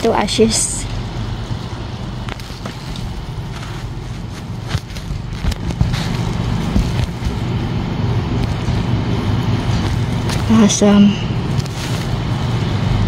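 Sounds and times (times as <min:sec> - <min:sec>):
wood fire crackling: 0:00.0 - 0:13.0
fire popping: 0:00.9 - 0:13.0.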